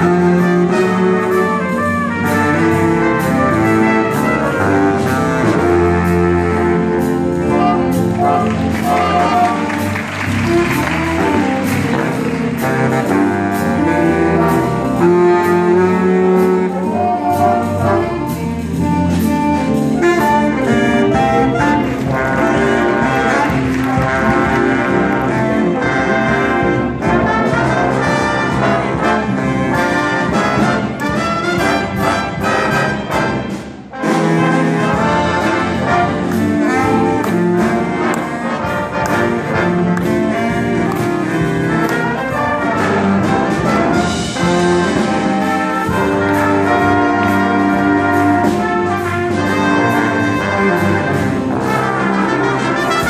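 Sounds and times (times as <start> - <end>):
jazz big band playing: 0.0 - 53.0.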